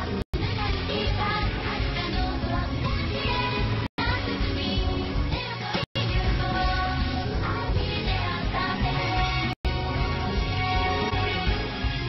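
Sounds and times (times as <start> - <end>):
soundtrack music: 0.0 - 12.0.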